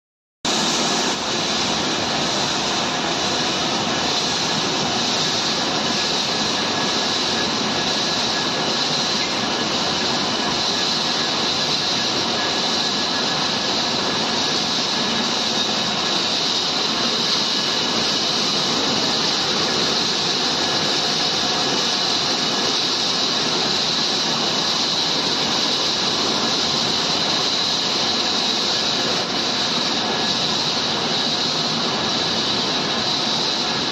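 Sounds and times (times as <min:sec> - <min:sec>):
pellet mill running with whine: 0:00.5 - 0:33.9.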